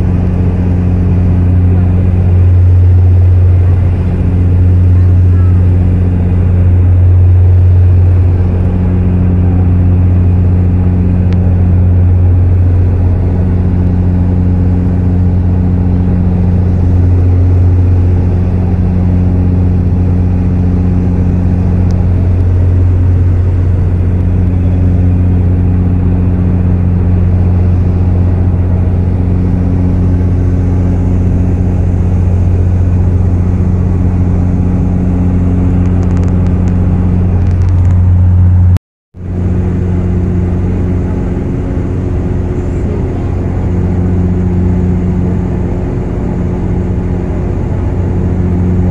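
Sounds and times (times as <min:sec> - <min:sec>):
aircraft engine drone in cabin: 0:00.0 - 0:48.9.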